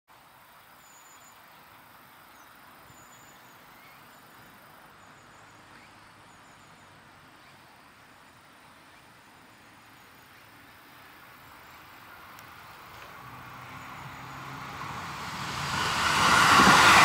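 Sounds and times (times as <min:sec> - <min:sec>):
crickets chirping: 0:00.2 - 0:17.0.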